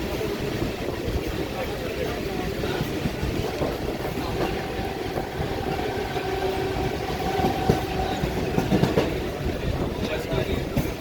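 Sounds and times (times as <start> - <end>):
train rumbling along track: 0.0 - 11.0
wheels knocking: 2.1 - 11.0.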